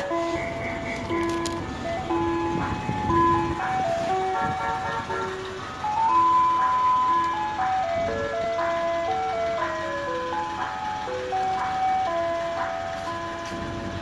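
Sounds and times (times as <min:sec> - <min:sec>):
ice cream truck chime jingle: 0:00.0 - 0:14.0.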